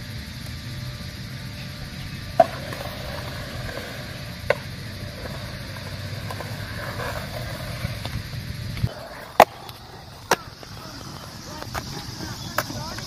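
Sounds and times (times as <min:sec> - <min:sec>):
skateboard rolling on concrete: 0:00.0 - 0:13.0
skateboard clacks: 0:01.4 - 0:13.0.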